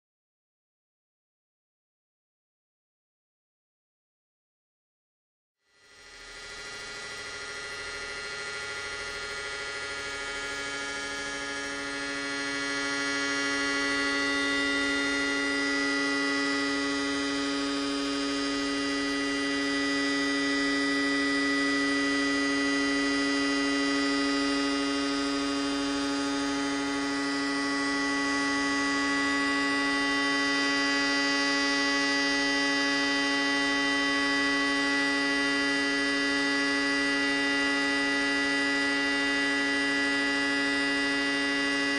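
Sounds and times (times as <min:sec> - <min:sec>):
electronic drone: 0:05.9 - 0:41.9.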